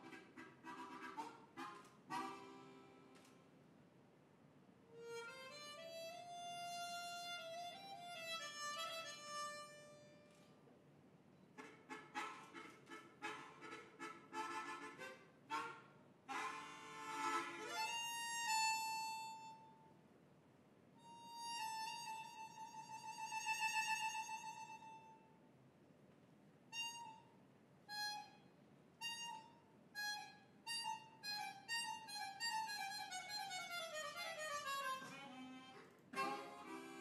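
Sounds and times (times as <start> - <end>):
harmonica melody: 0.0 - 3.4, 4.9 - 10.5, 11.6 - 19.9, 21.0 - 25.3, 26.7 - 37.0.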